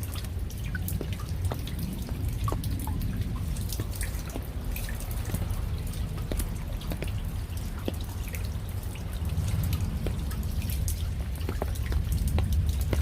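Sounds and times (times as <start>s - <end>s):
rain drops and drips: 0.0s - 13.0s
steady low rumble: 0.0s - 13.0s.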